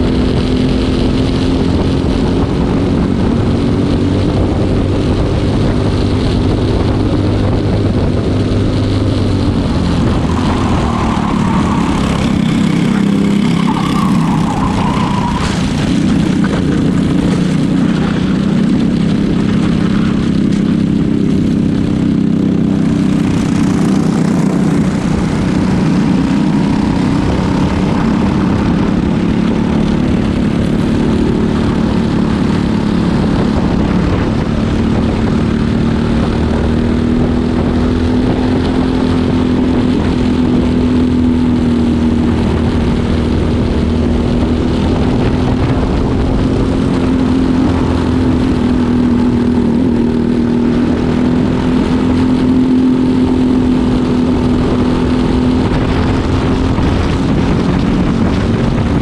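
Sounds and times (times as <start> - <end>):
kart engine revving: 0.0 - 59.0
wind rushing: 1.5 - 59.0.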